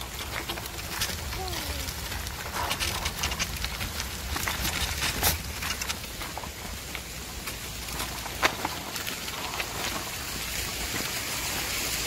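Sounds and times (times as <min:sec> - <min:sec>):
bicycle tyres crunching on gravel: 0:00.0 - 0:12.0.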